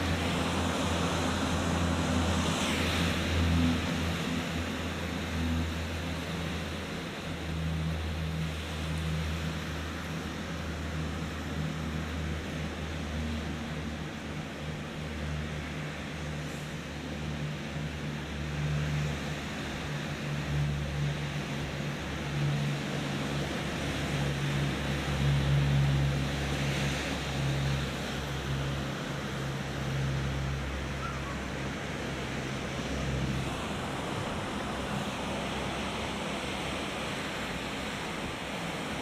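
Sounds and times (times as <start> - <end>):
ocean surf washing ashore: 0.0 - 39.0.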